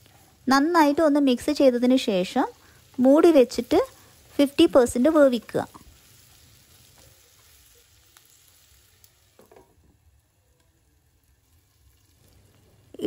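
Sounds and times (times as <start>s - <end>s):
faint sizzling in a pan: 0.0s - 13.0s.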